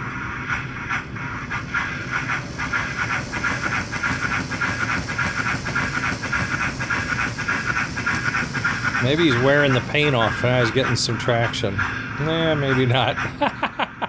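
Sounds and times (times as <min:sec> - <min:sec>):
motor and gears whining: 0:00.0 - 0:13.9
model locomotive hissing chuffs: 0:00.0 - 0:14.0.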